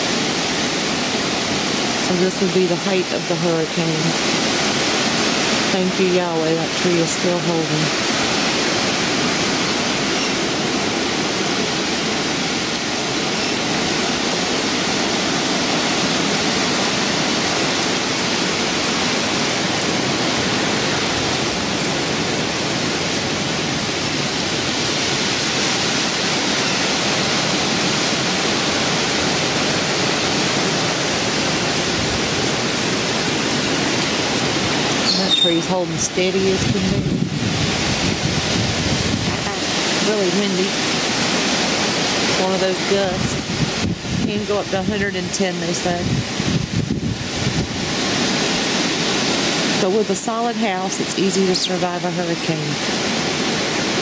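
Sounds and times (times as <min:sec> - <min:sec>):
hurricane wind through trees: 0:00.0 - 0:54.0
rain: 0:00.0 - 0:54.0.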